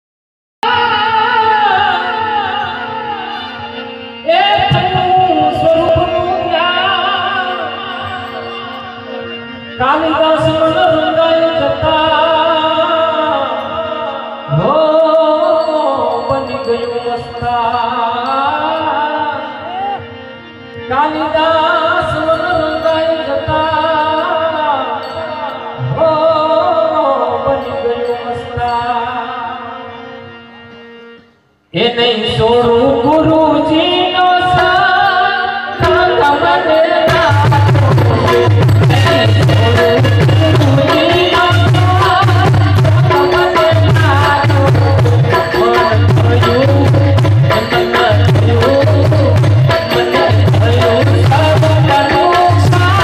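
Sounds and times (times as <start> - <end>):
man singing: 0.6 - 30.8, 31.7 - 53.0
harmonium chords: 0.6 - 53.0.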